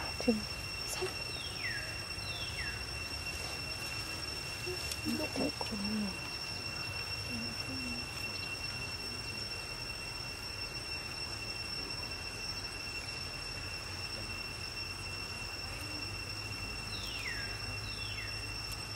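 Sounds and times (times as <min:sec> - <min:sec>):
insects droning: 0:00.0 - 0:18.9.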